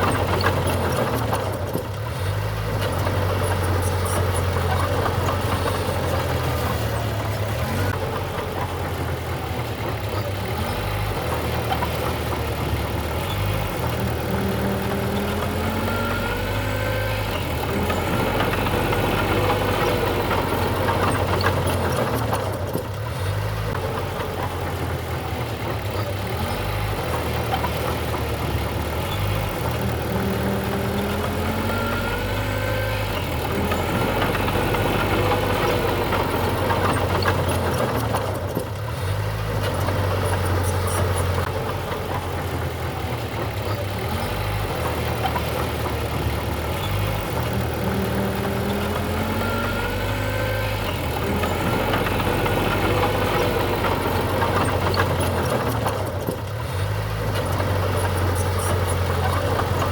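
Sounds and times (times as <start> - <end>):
earthmoving machine diesel engine: 0.0 - 59.9.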